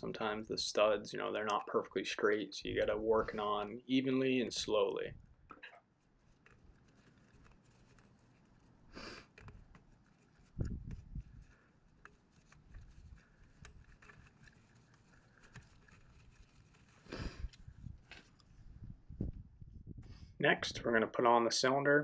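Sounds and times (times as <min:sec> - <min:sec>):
soft rustle: 0:02.6 - 0:20.3.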